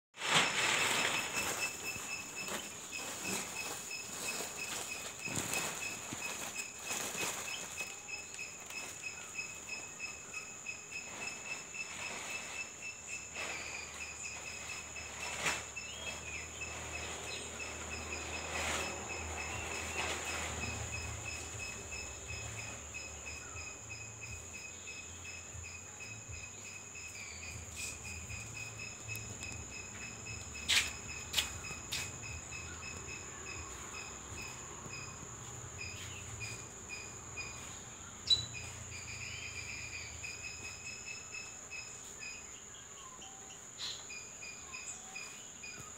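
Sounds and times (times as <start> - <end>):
high-pitched insect whine: 0.2 - 45.9
insects pulsing trill: 0.2 - 45.9.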